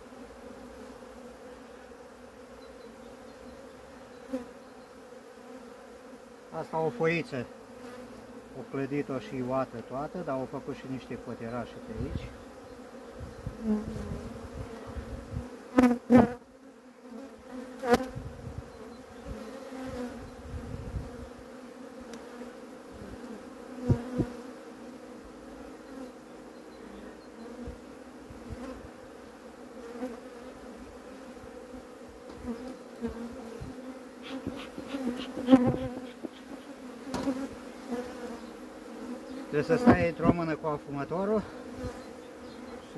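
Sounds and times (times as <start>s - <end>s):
bees buzzing: 0.0s - 42.9s.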